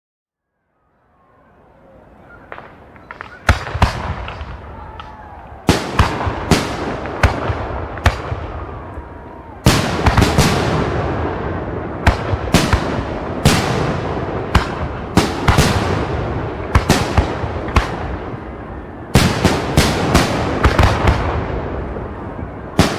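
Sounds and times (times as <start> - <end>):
distant fireworks bursts: 1.5 - 22.9
fireworks bangs: 2.2 - 22.9.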